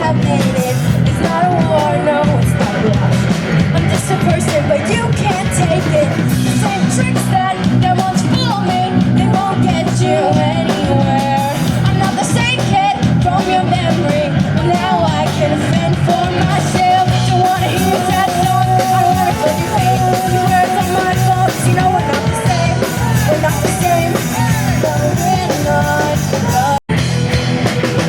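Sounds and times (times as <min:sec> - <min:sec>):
rock music with sung vocal: 0:00.0 - 0:28.0.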